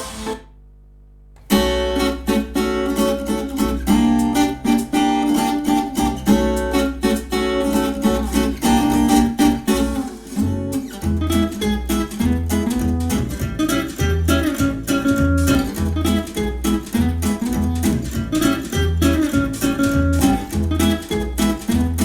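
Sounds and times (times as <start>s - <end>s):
strummed acoustic guitar: 0.0s - 0.5s, 1.4s - 22.0s
steady bass line: 0.0s - 22.0s.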